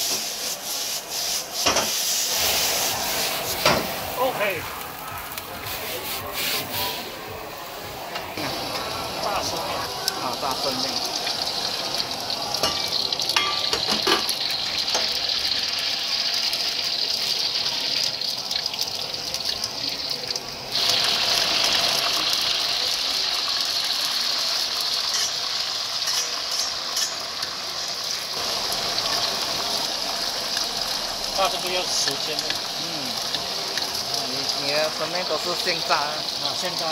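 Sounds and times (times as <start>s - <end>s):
noodles sizzling in oil: 0.0s - 36.9s.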